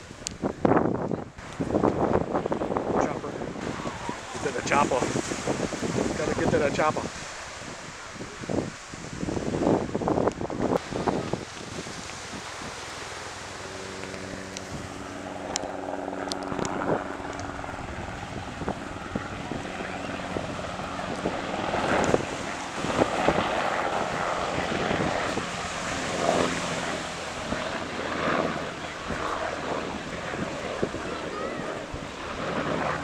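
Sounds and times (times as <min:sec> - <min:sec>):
wind gusts on microphone: 0:00.0 - 0:33.0
helicopter flying past: 0:01.2 - 0:08.7, 0:09.3 - 0:33.0.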